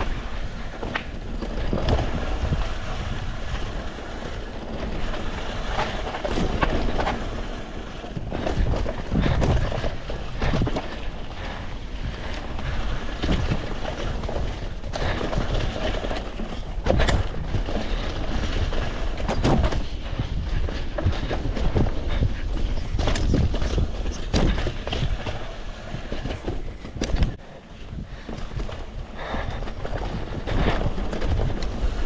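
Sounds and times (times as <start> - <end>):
bike clanking and rattling: 0.0 - 32.0
wind rumbling on microphone: 0.0 - 32.0.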